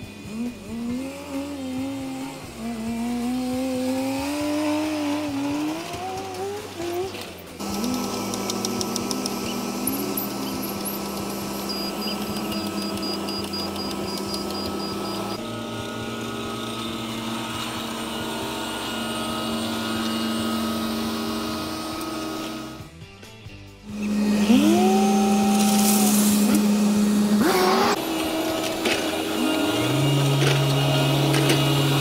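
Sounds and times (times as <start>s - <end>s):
heavy machinery diesel engines: 0.0s - 22.9s, 23.8s - 32.0s.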